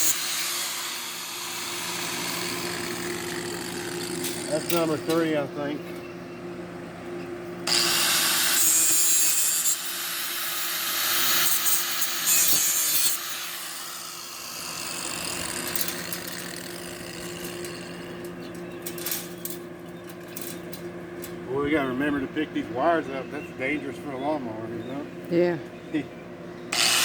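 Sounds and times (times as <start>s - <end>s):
steady low hum: 0.0s - 8.5s, 13.6s - 26.8s.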